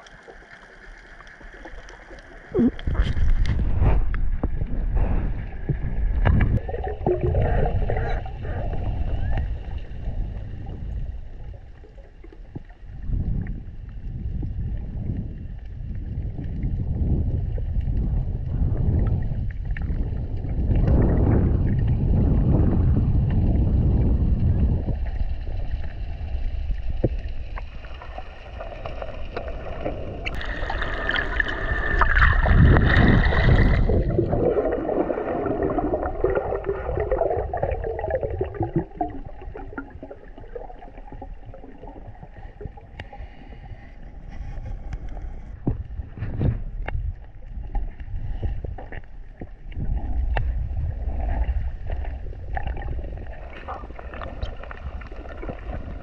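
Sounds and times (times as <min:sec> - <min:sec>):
muffled underwater rumble: 0:00.0 - 0:56.0
water bubbling and gurgling: 0:00.0 - 0:56.0.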